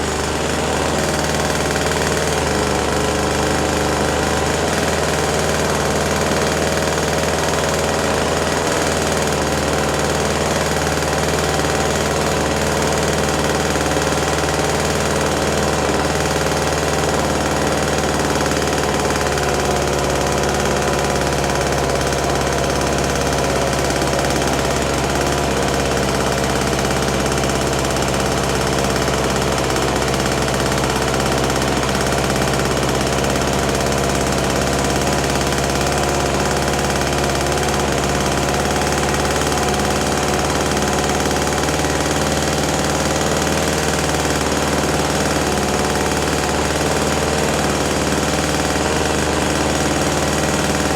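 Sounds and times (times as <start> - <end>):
small two-stroke engine running: 0.0 - 50.9.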